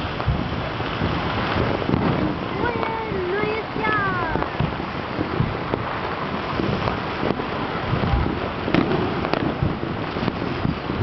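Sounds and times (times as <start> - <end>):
firecrackers crackling: 0.0 - 11.0
firework bangs: 0.0 - 11.0.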